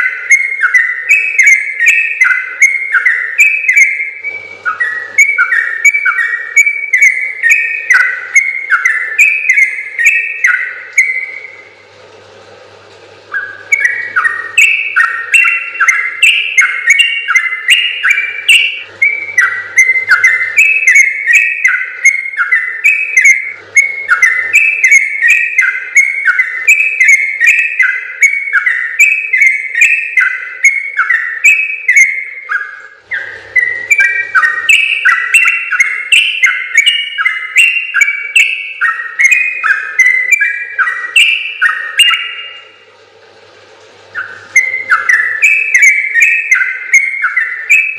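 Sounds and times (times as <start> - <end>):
bird singing bubbly whistles: 0.0 - 11.8, 13.2 - 42.9, 44.1 - 47.9.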